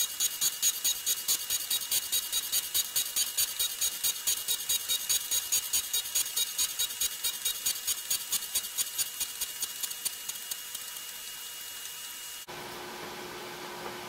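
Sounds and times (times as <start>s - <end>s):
grinding wheel hissing crackle: 0.0s - 12.5s.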